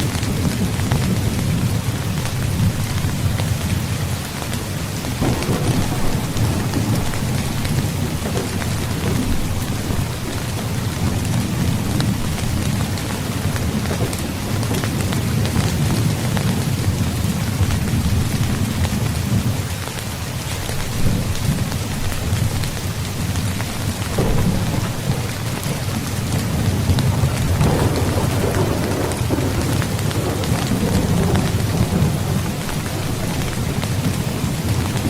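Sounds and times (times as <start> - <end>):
thunder rumbling: 0.0 - 19.8, 20.6 - 35.0
heavy rain falling: 0.0 - 35.0.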